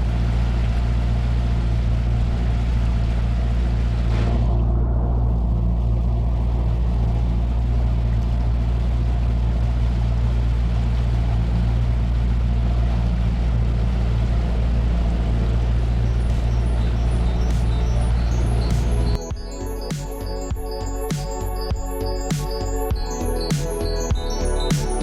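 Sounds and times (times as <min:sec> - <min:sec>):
outboard motor droning: 0:00.0 - 0:25.0
wind: 0:00.0 - 0:25.0.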